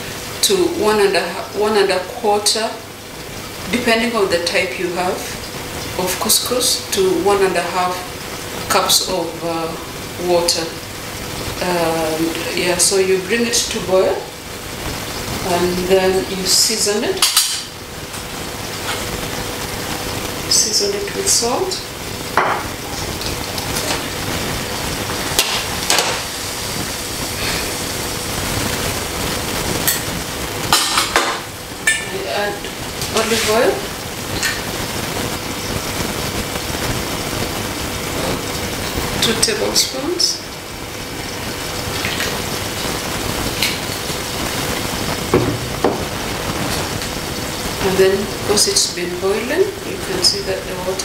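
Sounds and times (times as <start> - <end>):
water boiling in saucepan: 0.0 - 51.0.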